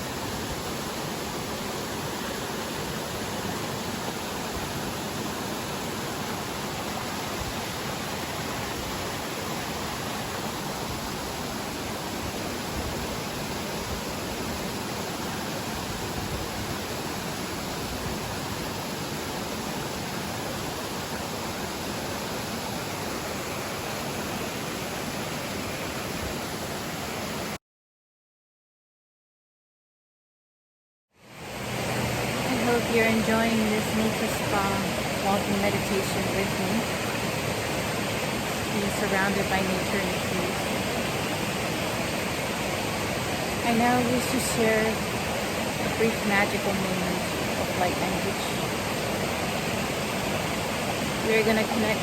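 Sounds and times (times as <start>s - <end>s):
rushing water: 0.0s - 27.6s, 31.2s - 52.0s.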